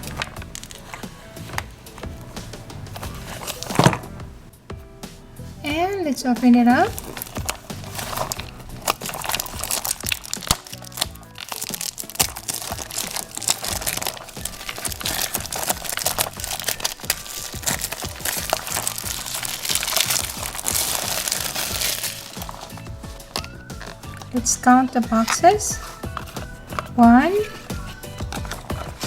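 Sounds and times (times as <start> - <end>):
packaging crinkling and crackling: 0.0 - 4.1, 6.5 - 29.0
light background music: 0.0 - 29.0.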